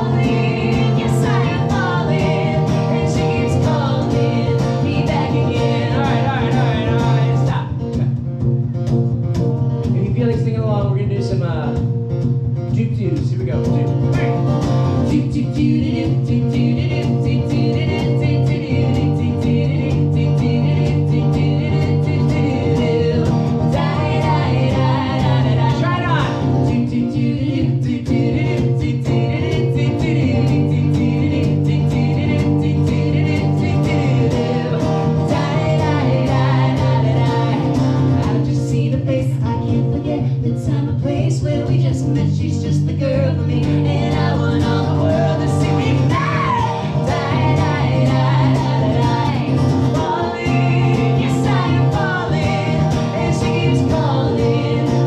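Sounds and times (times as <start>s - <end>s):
woman singing: 0.0s - 7.5s, 14.9s - 55.0s
acoustic guitar strumming: 0.0s - 55.0s.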